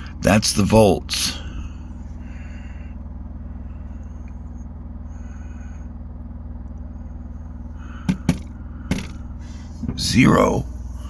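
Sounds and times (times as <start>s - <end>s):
electric fan heater drone: 0.0s - 11.0s.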